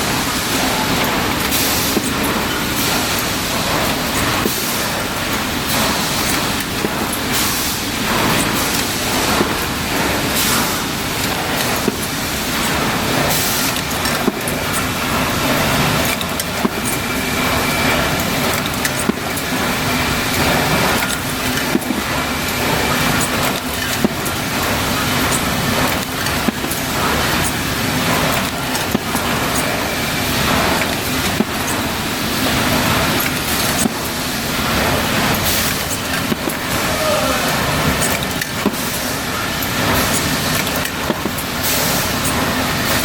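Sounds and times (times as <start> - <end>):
industrial machinery humming: 0.0 - 43.0
machinery clicks and clatter: 0.0 - 43.0.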